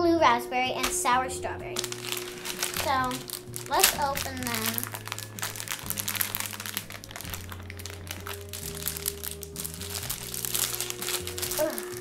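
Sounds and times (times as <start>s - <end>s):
background music with low notes: 0.0s - 12.0s
paper strip rustling: 1.8s - 12.0s
plastic wrapper crinkling: 1.8s - 12.0s.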